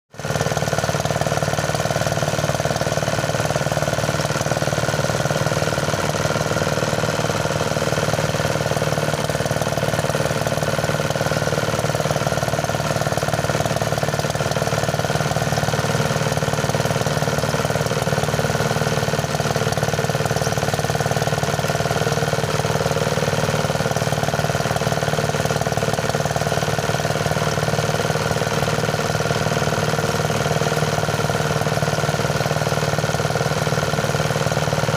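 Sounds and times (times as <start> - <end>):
threshing machine engine running: 0.2 - 34.9.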